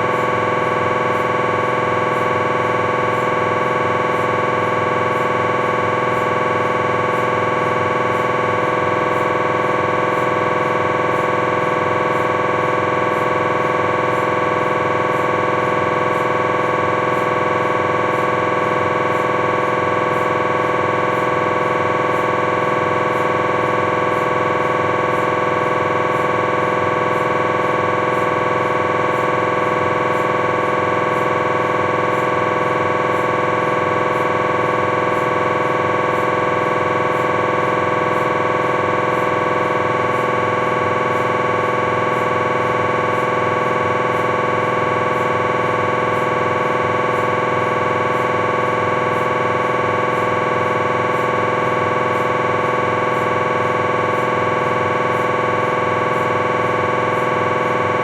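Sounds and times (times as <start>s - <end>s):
mri scanner electronic buzzing: 0.0s - 58.0s.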